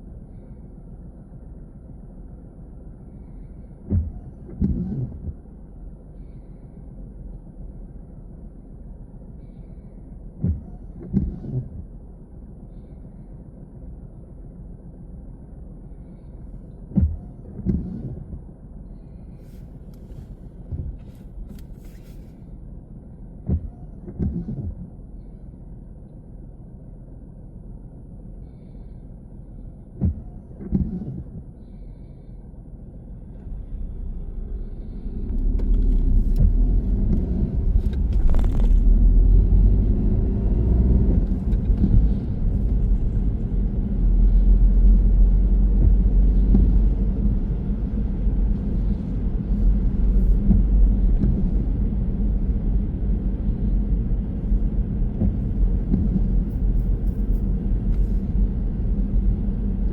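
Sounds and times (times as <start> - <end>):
car cabin rumble: 0.0 - 59.9.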